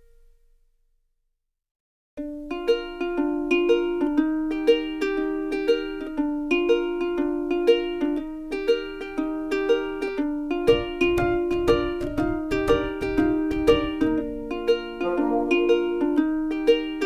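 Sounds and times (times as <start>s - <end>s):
plucked-string tune: 2.2s - 17.0s.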